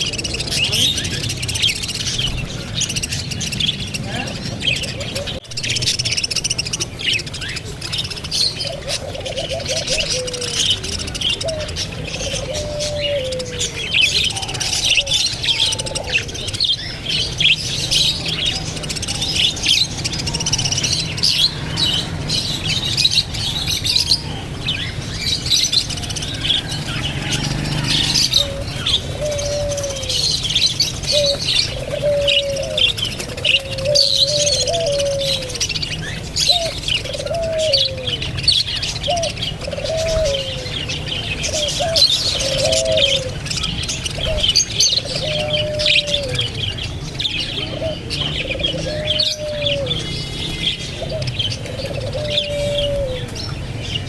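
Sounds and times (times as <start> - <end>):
birds chirping: 0.0 - 54.0
low coo-like bird calls: 0.0 - 54.0.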